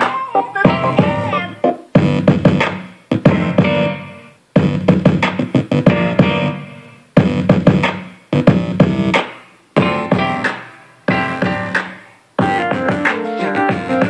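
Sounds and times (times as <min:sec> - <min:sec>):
music through soundbar: 0:00.0 - 0:14.0.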